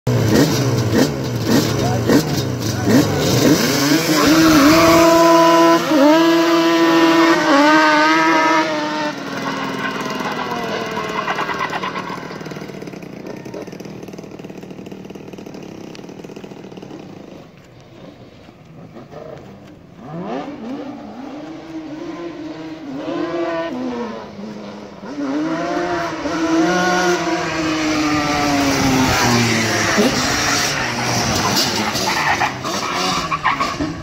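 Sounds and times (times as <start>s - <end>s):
quad engines revving: 0.1s - 34.0s.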